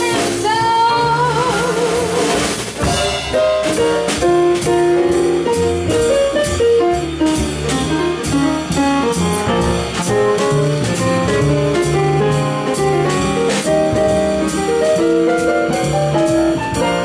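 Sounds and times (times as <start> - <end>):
bass: 0.0 - 17.0
drum kit beat: 0.0 - 17.0
lead melody line: 0.0 - 17.0
piano: 0.0 - 17.0.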